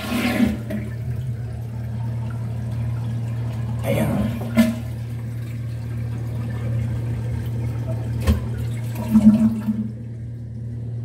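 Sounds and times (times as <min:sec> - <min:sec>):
low hum: 0:00.0 - 0:11.0
water running in a toilet: 0:00.0 - 0:11.0.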